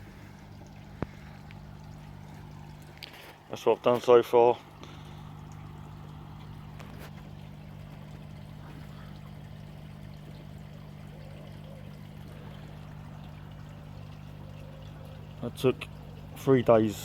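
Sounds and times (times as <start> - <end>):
low hum: 0.0 - 3.5, 4.5 - 16.4
water pouring and trickling: 0.0 - 17.0.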